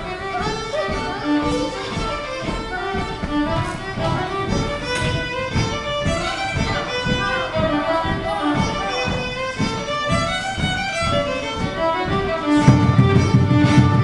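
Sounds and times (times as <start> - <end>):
folk jigs on acoustic instruments: 0.0 - 14.0.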